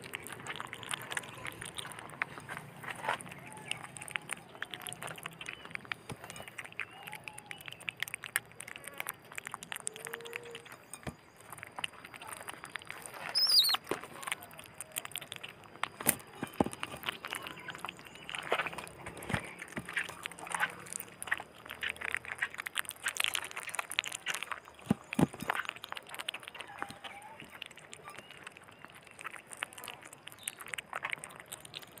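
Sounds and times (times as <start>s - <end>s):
otter chewing fish: 0.0s - 32.0s
otter pup chirp: 0.0s - 32.0s.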